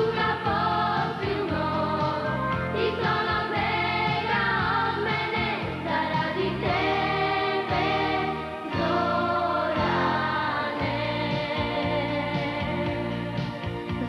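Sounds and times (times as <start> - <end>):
children's choir singing: 0.0 - 13.6
instrumental backing music: 0.0 - 14.0.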